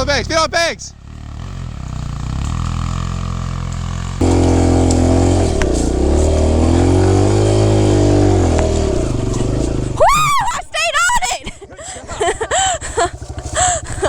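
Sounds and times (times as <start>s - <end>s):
dirt bike engine under load: 1.4s - 14.0s.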